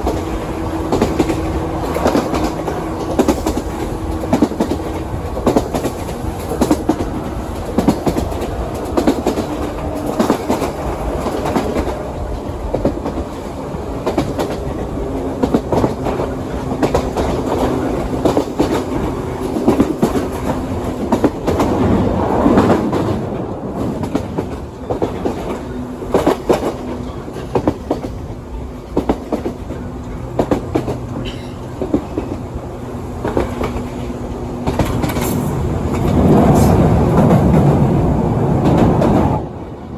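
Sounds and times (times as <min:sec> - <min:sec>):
train ride rumble: 0:00.0 - 0:39.9
wheels clicking over rail joints: 0:00.0 - 0:39.9.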